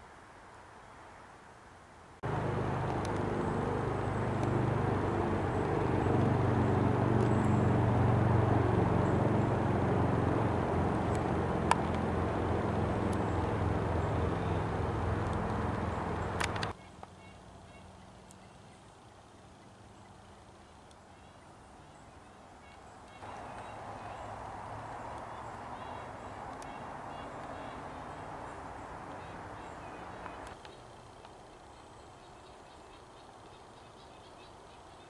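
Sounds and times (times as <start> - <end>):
engine-like hum: 2.2 - 35.0.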